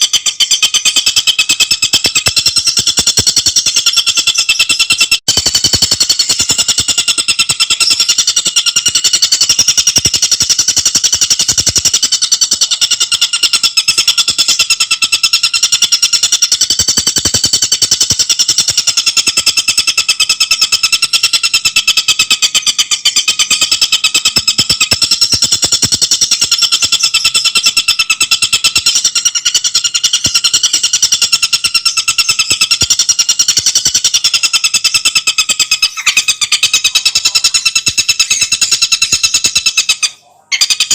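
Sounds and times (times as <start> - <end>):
bird rattling trill: 0.0 - 40.9.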